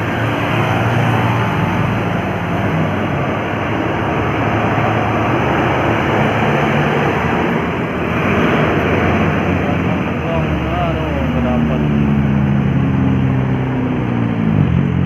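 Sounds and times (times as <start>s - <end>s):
heavy vehicle passing: 0.0s - 15.0s.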